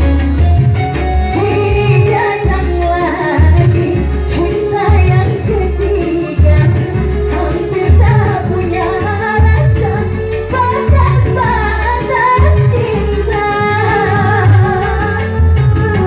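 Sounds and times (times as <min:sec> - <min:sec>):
electronic keyboard backing with bass beat: 0:00.0 - 0:16.0
woman singing into microphone: 0:00.0 - 0:16.0.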